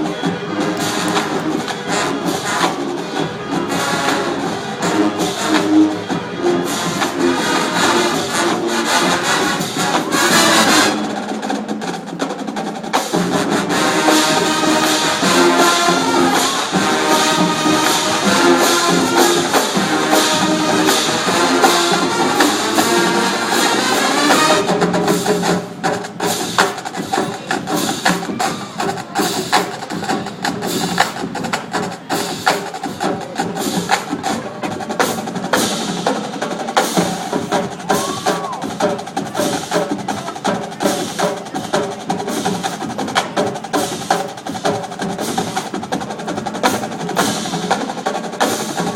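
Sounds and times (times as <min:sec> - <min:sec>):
marching band playing: 0:00.0 - 0:48.9
rapid sharp percussion hits: 0:00.0 - 0:48.9.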